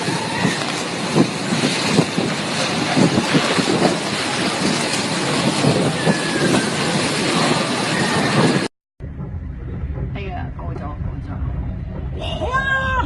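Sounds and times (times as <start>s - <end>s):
wind and rain rushing: 0.0s - 13.0s
knocks and buffets: 0.8s - 13.0s.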